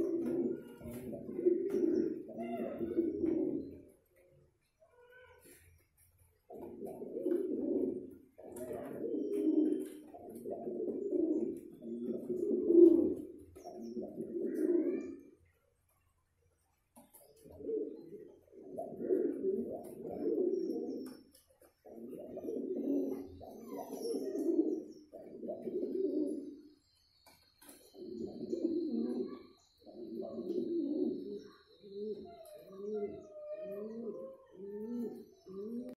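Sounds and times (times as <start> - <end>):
pigeon cooing: 0.0 - 4.1, 6.4 - 15.5, 17.0 - 26.6, 27.6 - 35.9.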